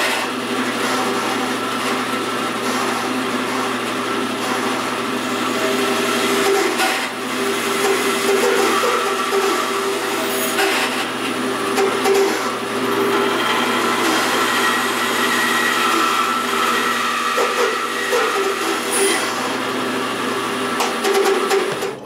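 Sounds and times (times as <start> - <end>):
bandsaw cutting rubber: 0.0 - 22.0.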